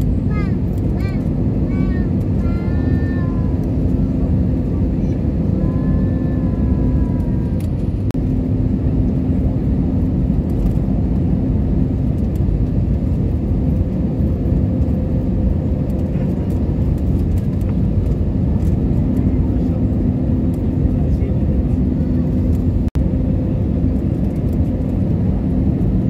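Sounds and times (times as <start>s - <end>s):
jet cabin engine noise: 0.0s - 26.0s.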